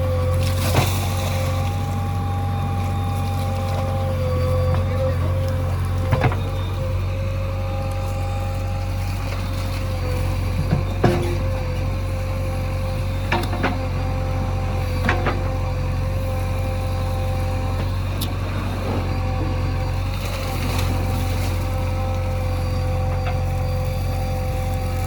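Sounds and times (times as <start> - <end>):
diesel engine droning: 0.0 - 25.0
steady whine: 0.0 - 25.0.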